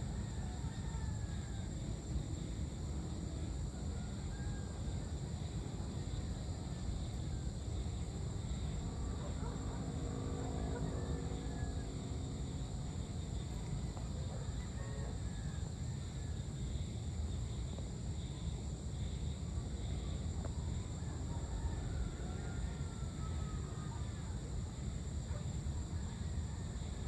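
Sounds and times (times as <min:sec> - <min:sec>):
insect chorus: 0:00.0 - 0:27.0.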